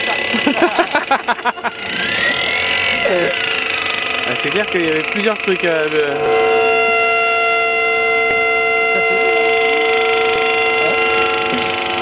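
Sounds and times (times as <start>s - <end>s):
electronic drone of held tones: 0.0s - 12.0s.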